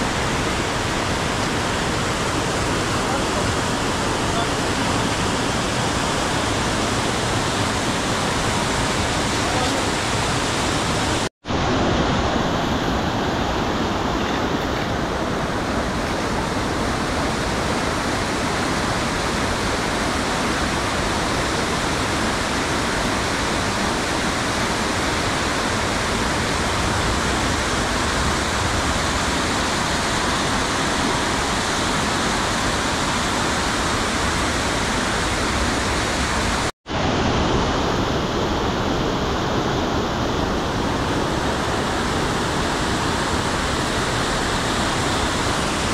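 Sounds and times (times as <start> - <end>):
stream rushing over cascades: 0.0 - 45.9.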